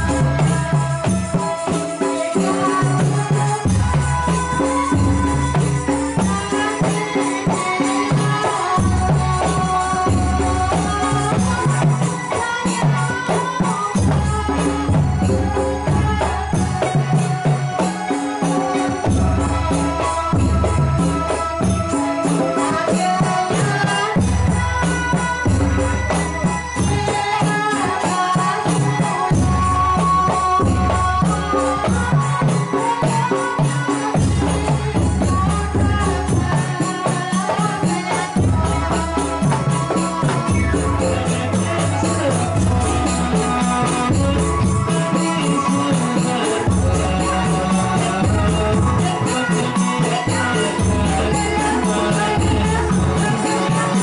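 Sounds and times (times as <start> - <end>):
fast shaker-like percussion: 0.0 - 54.0.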